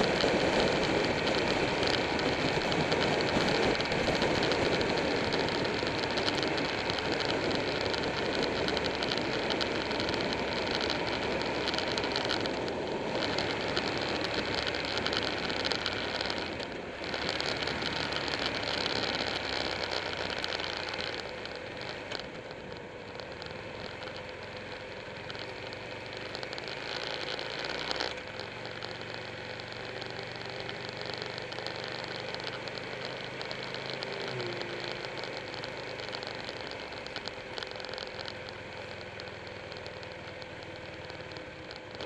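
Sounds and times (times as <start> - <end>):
motorcycle engine drone: 0.0 - 42.0
wind rushing over camera: 0.0 - 42.0.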